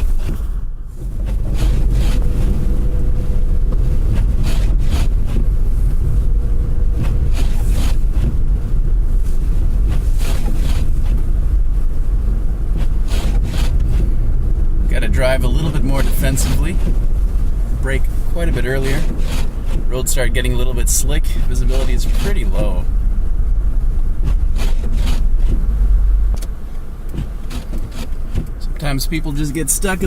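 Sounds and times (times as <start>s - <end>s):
car driving on snow: 0.0s - 30.0s.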